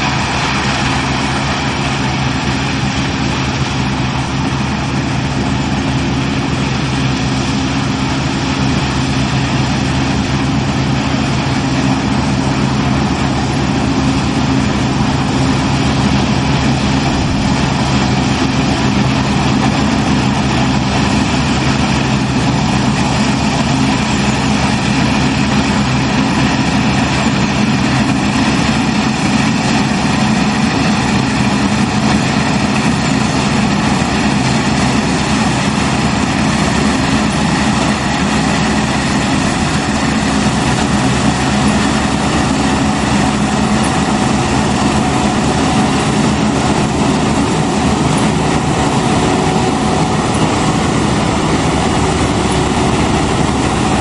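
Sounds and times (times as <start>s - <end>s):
combine harvester engine drone: 0.0s - 54.0s
threshing machinery rushing: 0.0s - 54.0s.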